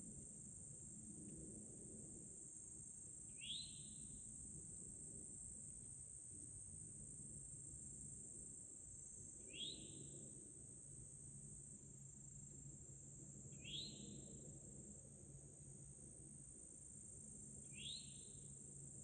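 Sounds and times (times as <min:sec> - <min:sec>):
faint high-pitched insect chorus: 0:00.0 - 0:19.0.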